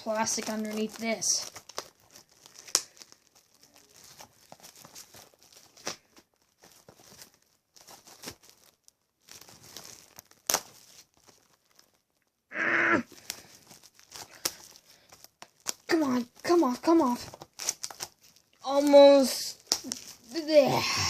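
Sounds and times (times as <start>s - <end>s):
plastic shrink-wrap crinkling: 0.0s - 21.0s.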